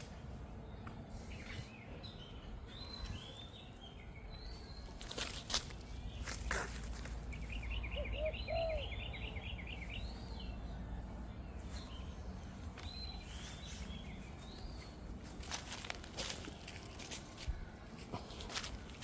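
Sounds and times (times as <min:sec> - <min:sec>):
birds chirping and trilling: 0:00.0 - 0:19.0
steady low background hum: 0:00.0 - 0:19.0.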